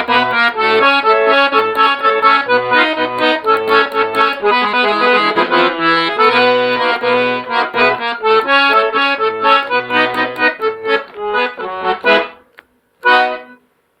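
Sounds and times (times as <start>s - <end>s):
solo accordion playing: 0.0s - 13.7s.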